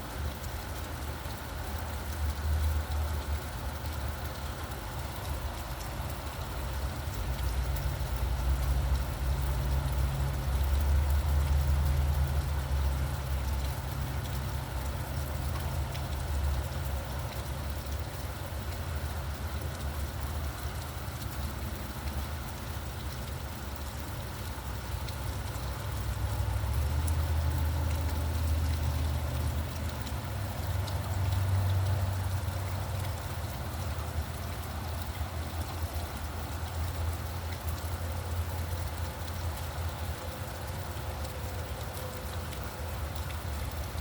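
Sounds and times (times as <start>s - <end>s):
road traffic rumble: 0.0s - 44.0s
steady rainfall: 0.0s - 44.0s.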